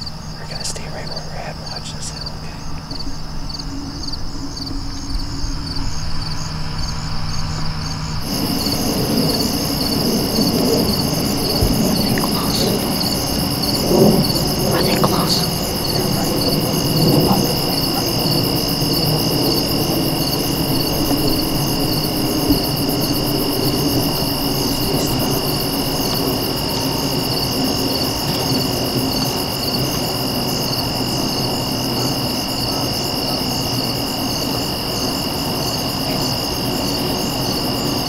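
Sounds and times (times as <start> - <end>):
high pulsing insect trill: 0.0 - 38.0
insects trilling in chorus: 0.0 - 38.0.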